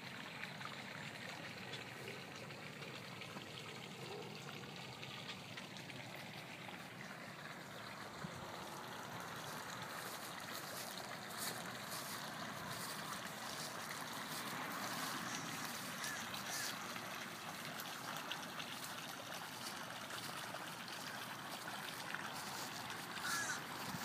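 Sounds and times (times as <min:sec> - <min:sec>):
water splashing and trickling: 0:00.0 - 0:24.0.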